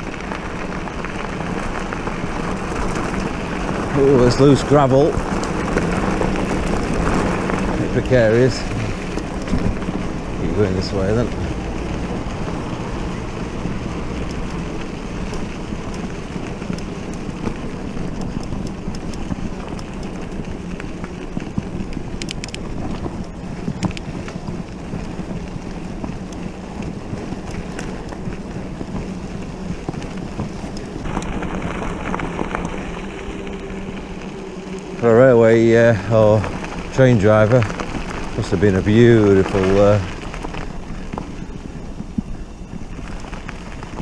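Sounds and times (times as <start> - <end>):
bike tyres rolling on gravel: 0.0 - 44.0
wind on microphone: 0.0 - 44.0.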